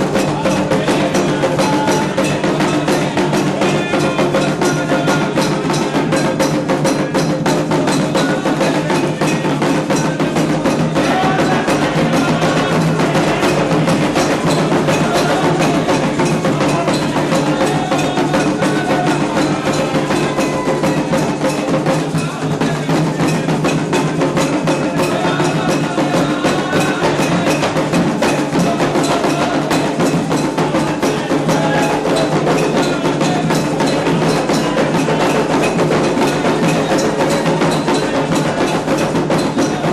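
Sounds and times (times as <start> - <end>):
hand drums: 0.0 - 39.9
struck bell or wood block: 0.0 - 39.9
voices singing: 0.0 - 39.9.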